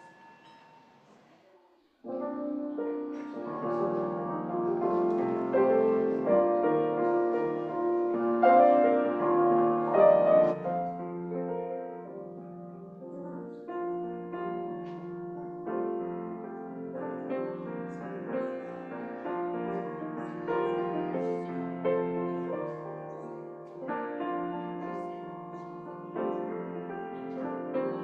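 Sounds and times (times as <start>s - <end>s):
piano music: 2.1s - 28.0s.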